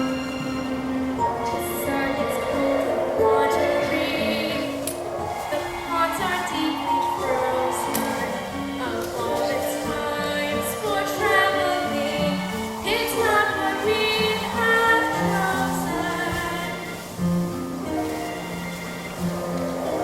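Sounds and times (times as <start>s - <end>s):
young people singing: 0.0s - 18.4s.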